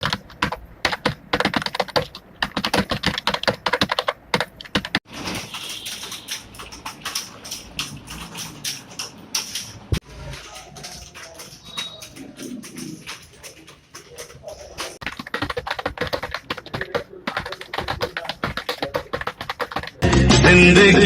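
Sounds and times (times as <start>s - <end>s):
rapid typing on a keyboard: 0.0s - 20.0s.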